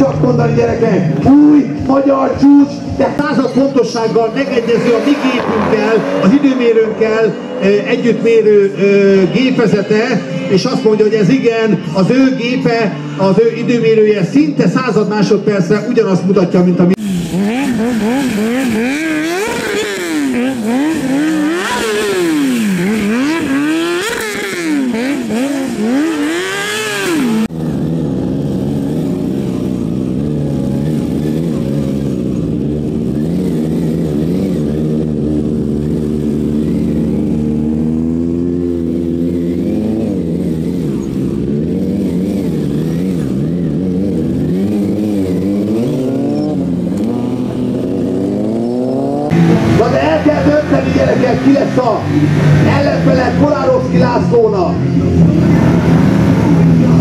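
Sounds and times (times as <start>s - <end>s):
motorcycle engine revving: 0.0s - 14.2s, 16.9s - 57.0s.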